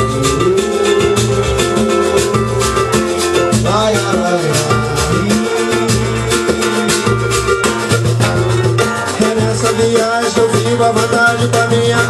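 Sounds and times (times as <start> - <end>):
plucked strings: 0.0 - 12.0
samba percussion: 0.0 - 12.0.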